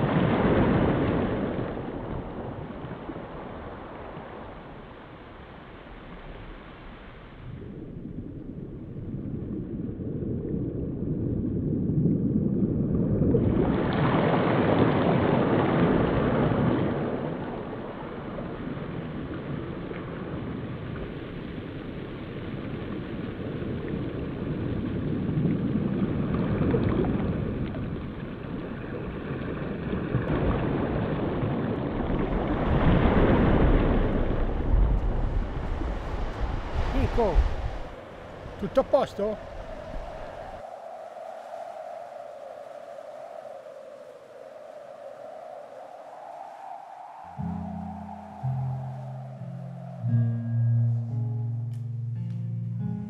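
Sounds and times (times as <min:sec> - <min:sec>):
sea surf washing on beach: 0:00.0 - 0:09.2, 0:13.3 - 0:50.6
wind on microphone: 0:00.0 - 0:51.2.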